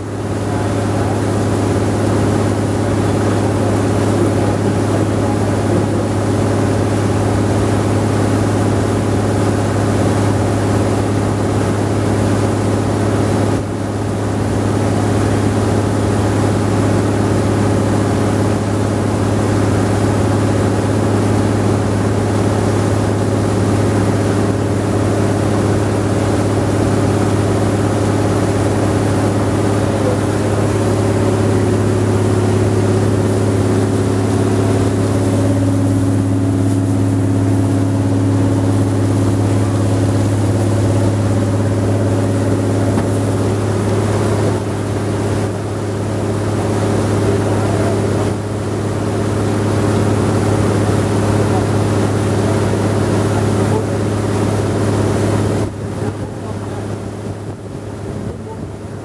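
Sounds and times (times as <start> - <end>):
boat engine running steadily: 0.0 - 59.0.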